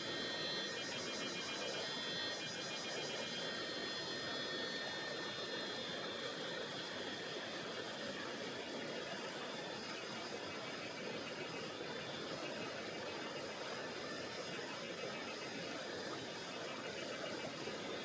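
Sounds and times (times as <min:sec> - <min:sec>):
thin high steady tones: 0:00.0 - 0:18.0.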